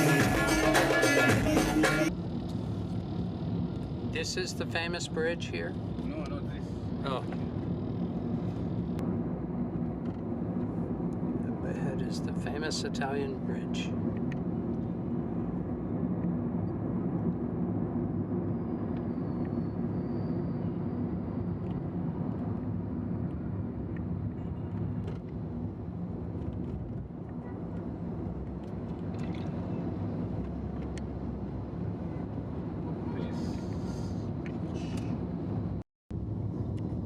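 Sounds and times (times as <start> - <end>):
road noise: 0.0 - 37.0
vehicle engine rumble: 0.0 - 37.0.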